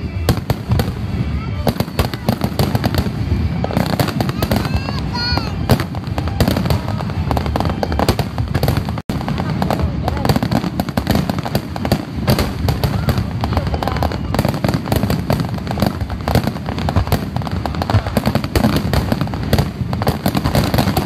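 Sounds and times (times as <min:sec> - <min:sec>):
firework shells bursting: 0:00.2 - 0:21.0.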